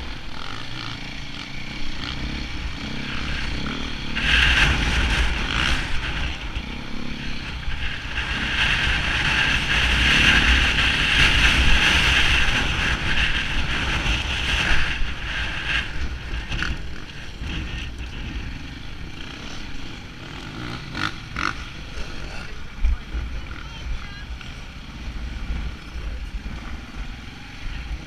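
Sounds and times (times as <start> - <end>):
motorcycle engine under throttle: 0.0 - 28.0.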